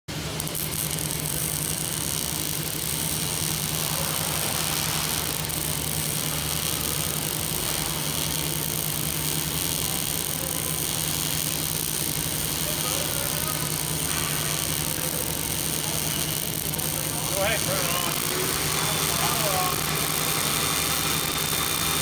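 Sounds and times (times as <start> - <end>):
fume extraction vacuum humming: 0.1 - 22.0.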